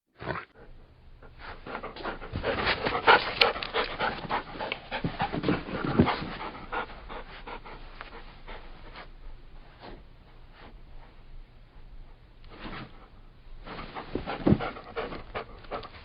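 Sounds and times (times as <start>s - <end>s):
dog panting: 0.6s - 10.8s, 12.1s - 16.0s.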